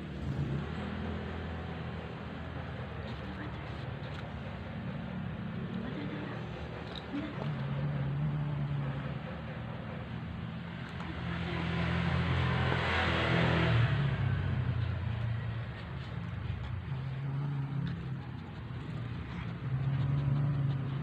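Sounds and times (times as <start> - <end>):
low engine hum: 0.0 - 21.0
vehicle engine passing: 0.0 - 21.0.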